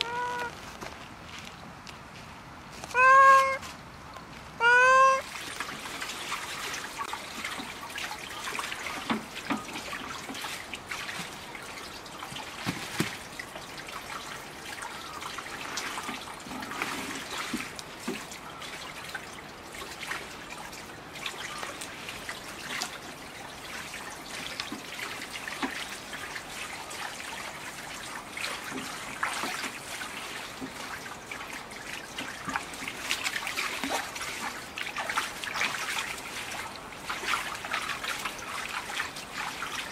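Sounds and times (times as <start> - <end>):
splashing and trickling water: 2.9 - 39.9.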